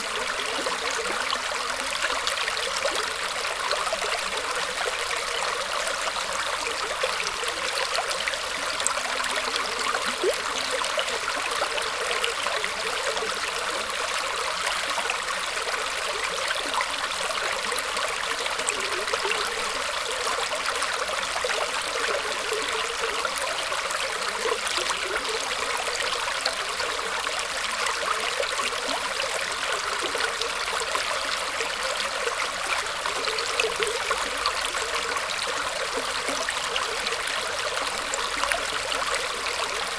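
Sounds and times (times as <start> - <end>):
stream trickling through roots: 0.0 - 39.9.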